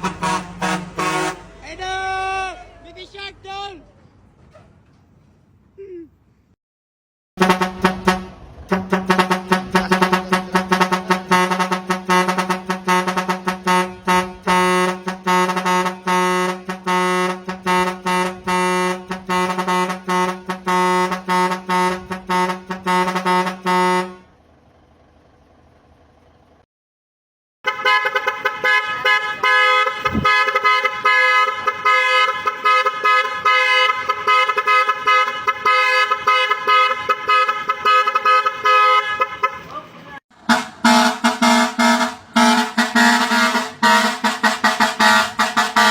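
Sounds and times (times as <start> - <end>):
vehicle horn stuttering blasts: 0.0 - 2.6, 7.4 - 24.3, 27.6 - 45.9
higher horn rapid blasts: 0.0 - 3.5, 7.4 - 24.3, 27.6 - 45.9.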